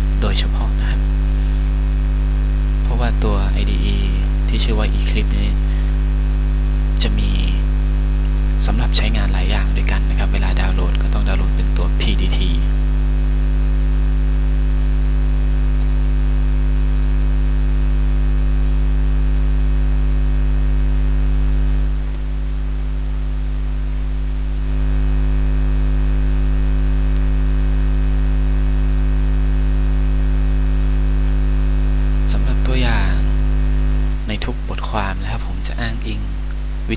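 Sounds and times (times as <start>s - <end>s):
electrical mains hum with hiss: 0.0s - 36.9s.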